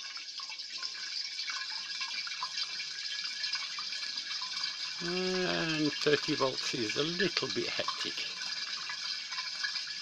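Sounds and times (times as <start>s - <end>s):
water churning and splashing: 0.0s - 10.0s.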